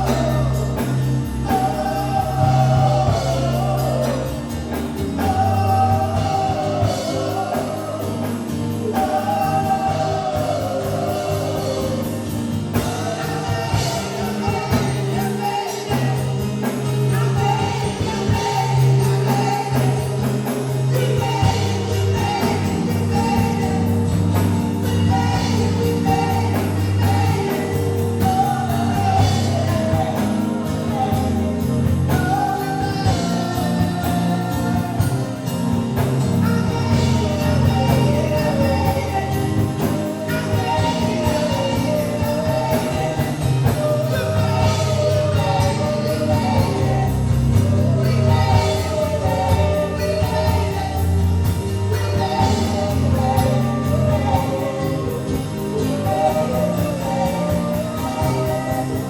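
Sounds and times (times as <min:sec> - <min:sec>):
band with steady bass: 0:00.0 - 0:59.0
singers: 0:00.0 - 0:59.0.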